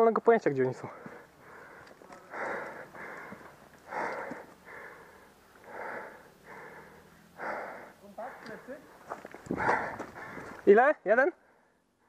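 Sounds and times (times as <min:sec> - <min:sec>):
person breathing heavily: 0:00.9 - 0:10.6, 0:11.4 - 0:12.0.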